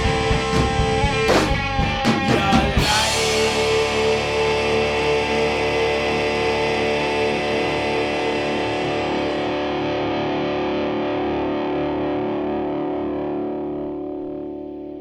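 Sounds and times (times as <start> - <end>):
distorted electric guitar chord: 0.0 - 15.0.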